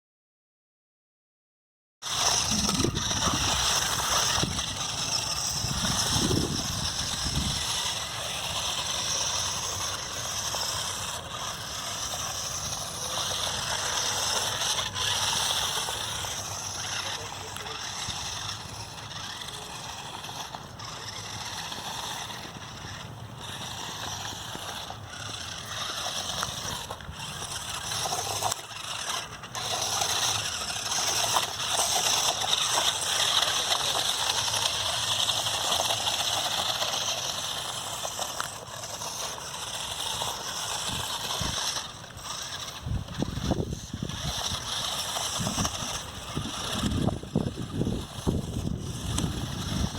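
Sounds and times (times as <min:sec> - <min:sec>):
toy truck motor running: 0:02.0 - 0:49.9.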